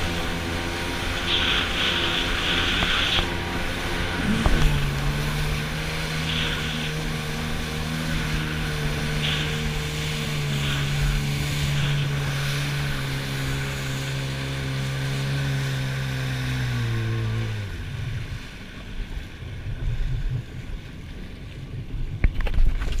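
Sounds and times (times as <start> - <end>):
jet ski engine running: 0.0 - 23.0
water splashes and slaps: 0.0 - 23.0.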